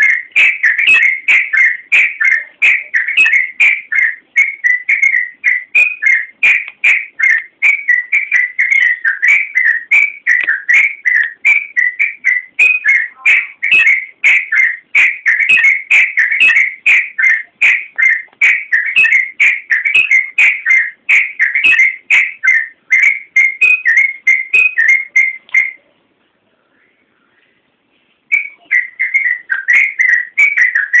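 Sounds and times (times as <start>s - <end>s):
bird singing whistled notes: 0.0s - 25.9s, 28.3s - 31.0s.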